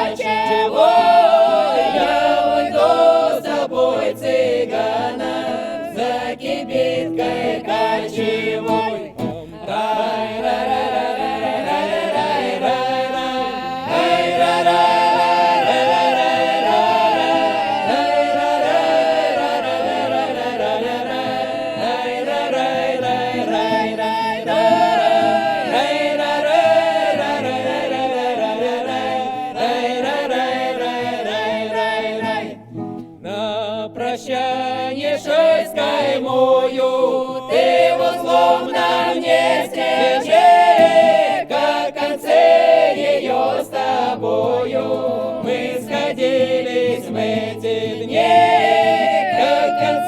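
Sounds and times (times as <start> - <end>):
mixed choir singing a cappella: 0.0 - 50.0.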